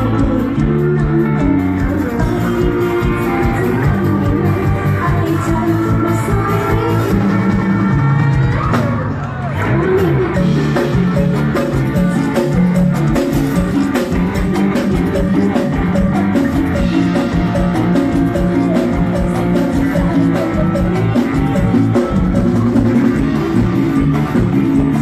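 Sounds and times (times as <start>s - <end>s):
bass guitar: 0.0s - 25.0s
drum kit beat: 0.0s - 25.0s
electric guitar: 0.0s - 25.0s.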